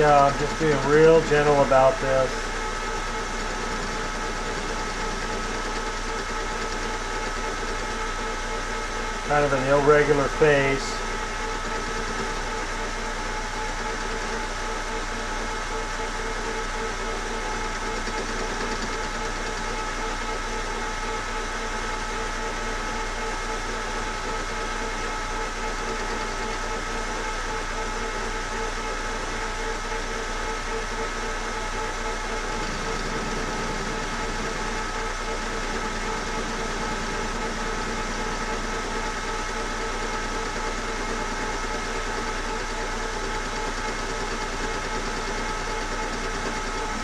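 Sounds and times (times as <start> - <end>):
metal lathe running: 0.0 - 47.0.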